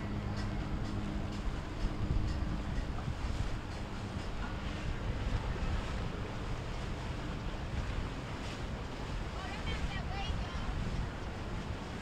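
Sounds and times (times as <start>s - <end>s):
motorboat engines: 0.0s - 12.0s
water: 0.0s - 12.0s
wind buffeting microphone: 0.0s - 12.0s.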